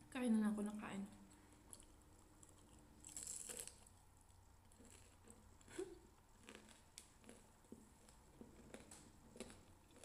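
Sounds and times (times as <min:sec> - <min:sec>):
soft chewing: 0:01.0 - 0:10.0
faint crunch of a bite: 0:01.3 - 0:10.0.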